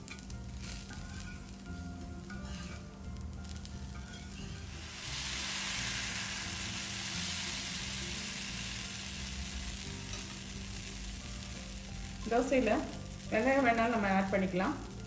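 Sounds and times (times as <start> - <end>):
batter sizzling on hot pan: 0.0 - 15.0.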